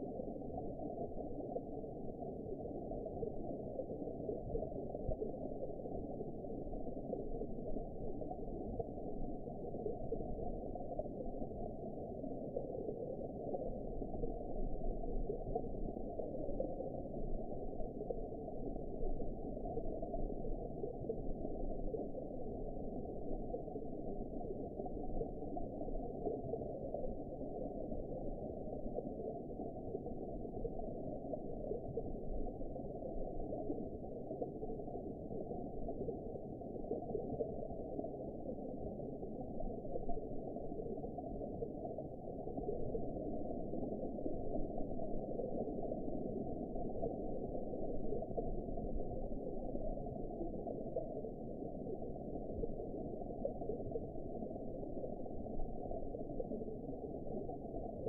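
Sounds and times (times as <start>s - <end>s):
muffled underwater rush: 0.0s - 58.0s.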